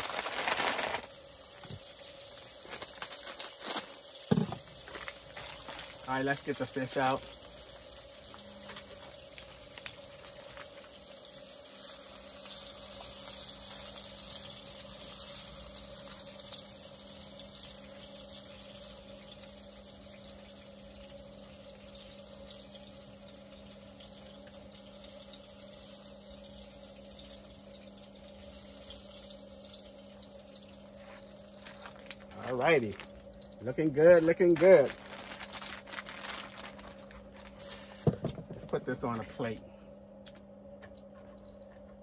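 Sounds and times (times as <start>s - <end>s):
fish frying in hot oil: 0.0s - 39.1s
faint low hum: 1.4s - 42.0s.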